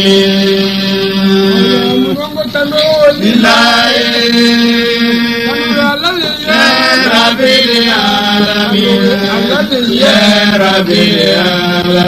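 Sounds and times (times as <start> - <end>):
chanted recitation: 0.0 - 12.0.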